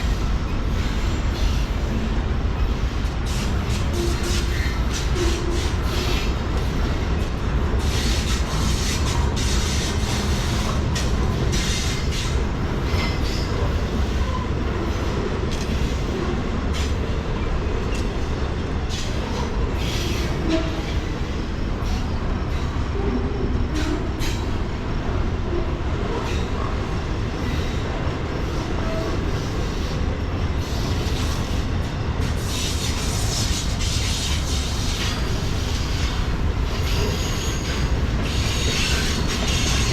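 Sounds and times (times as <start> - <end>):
freight train rumbling: 0.0 - 39.9.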